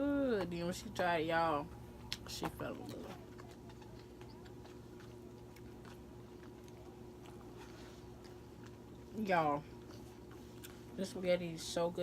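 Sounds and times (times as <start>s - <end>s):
low steady hum: 0.0s - 12.0s
chewing and mouth noises: 1.7s - 11.8s.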